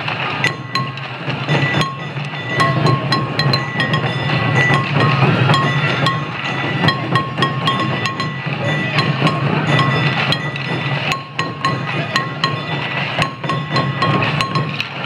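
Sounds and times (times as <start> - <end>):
steady low drone: 0.0 - 15.0
hand-held metal gongs struck: 0.4 - 15.0.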